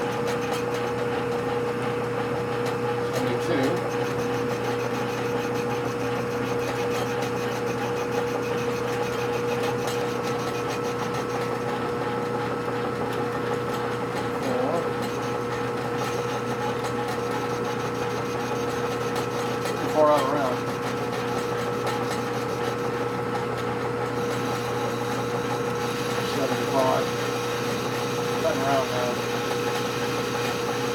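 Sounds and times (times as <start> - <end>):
metal lathe humming with whine: 0.0 - 30.9.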